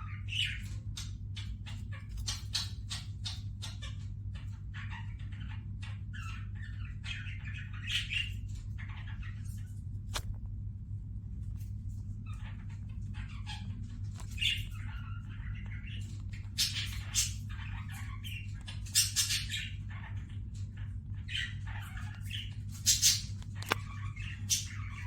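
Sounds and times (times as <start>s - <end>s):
finches and budgerigars chirping: 0.0s - 10.2s, 12.0s - 25.0s
steady low hum: 0.0s - 25.0s.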